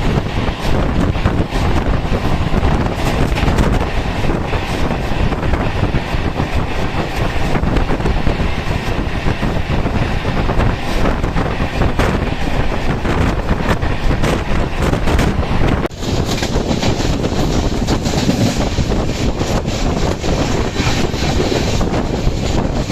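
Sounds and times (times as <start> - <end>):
train wheels rumbling on track: 0.0 - 22.9
wind buffeting microphone: 0.0 - 22.9.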